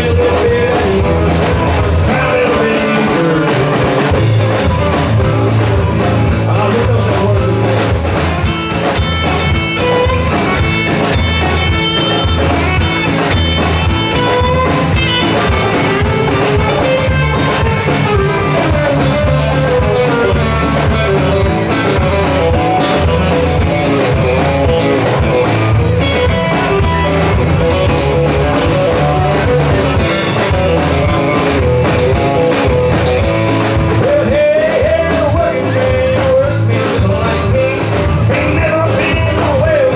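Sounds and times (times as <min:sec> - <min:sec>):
guitar-led melody: 0:00.0 - 0:39.9
rock band playing: 0:00.0 - 0:39.9.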